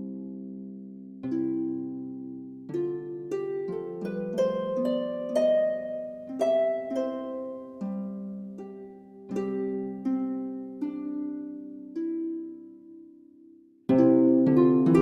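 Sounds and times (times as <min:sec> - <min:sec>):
harp music: 0:00.0 - 0:15.0.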